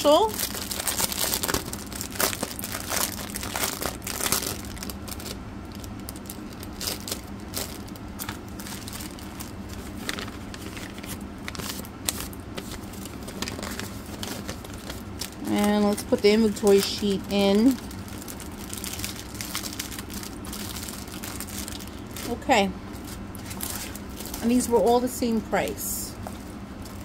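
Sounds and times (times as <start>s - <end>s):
plastic bags crinkling: 0.0s - 27.0s.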